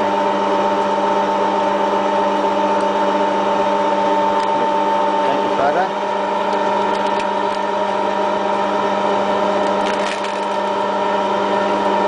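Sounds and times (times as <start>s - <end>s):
wire stripping machine humming: 0.0s - 12.0s.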